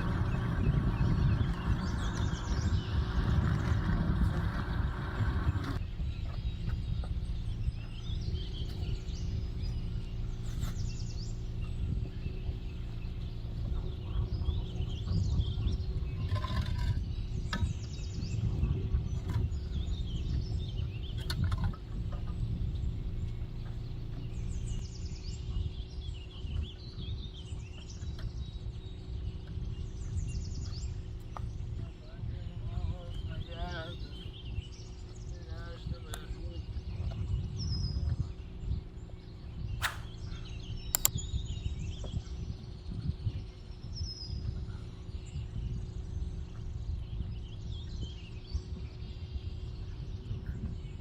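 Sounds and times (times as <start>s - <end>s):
low rumble: 0.0s - 51.0s
small birds chirping: 0.0s - 51.0s.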